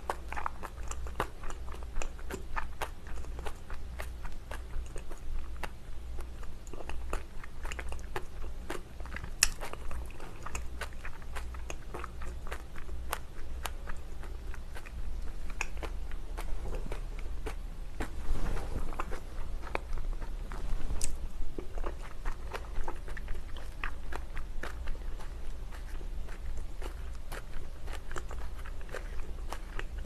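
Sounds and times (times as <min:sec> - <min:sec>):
steady low hum: 0:00.0 - 0:30.0
wet chewing and mouth clicks: 0:00.0 - 0:30.0.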